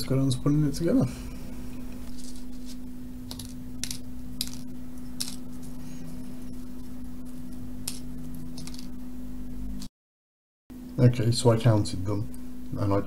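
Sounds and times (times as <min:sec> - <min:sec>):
steady low hum: 0:00.0 - 0:09.9, 0:10.7 - 0:13.0.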